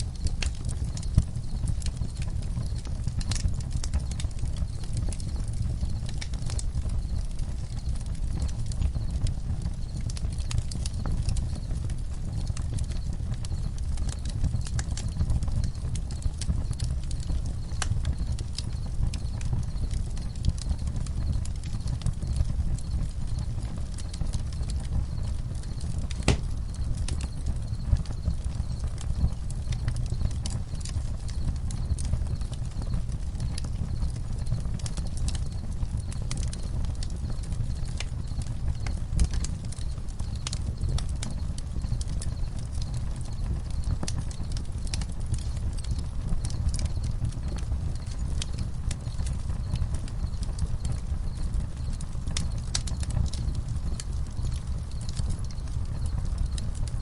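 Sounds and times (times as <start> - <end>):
campfire crackling and popping: 0.0 - 57.0
low rumble of burning fire: 0.0 - 57.0
crickets chirping: 6.8 - 7.9, 10.4 - 12.4, 14.5 - 57.0.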